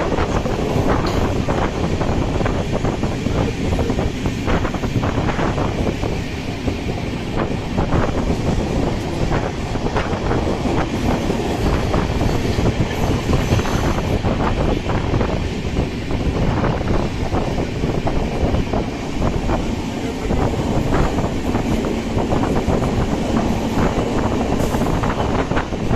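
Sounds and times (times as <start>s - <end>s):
train rumbling at speed: 0.0s - 25.9s.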